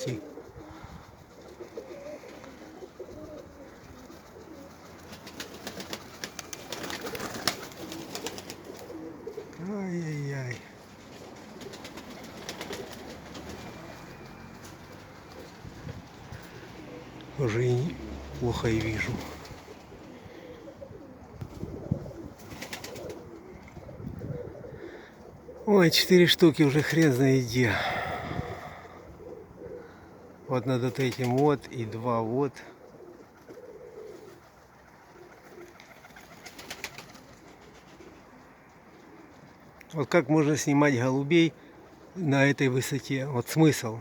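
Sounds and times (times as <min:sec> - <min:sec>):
pigeons cooing: 0:00.0 - 0:42.5.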